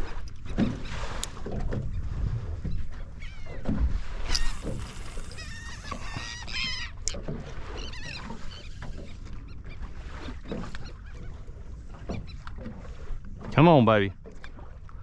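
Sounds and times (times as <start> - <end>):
seabirds calling: 0.0 - 12.9
wind and water rumble: 0.0 - 15.0.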